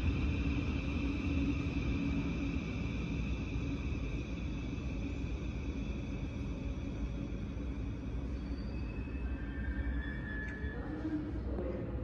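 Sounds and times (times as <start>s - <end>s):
train high whine: 0.0s - 12.0s
train low rumble: 0.0s - 12.0s.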